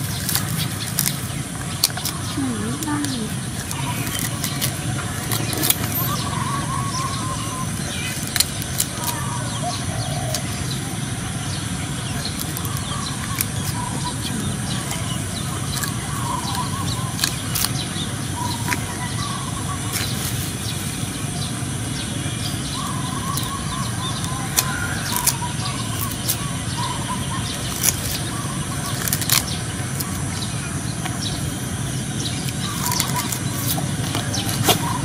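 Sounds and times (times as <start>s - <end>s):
rushing background noise: 0.0s - 35.0s
sugar cane crunching: 0.0s - 35.0s.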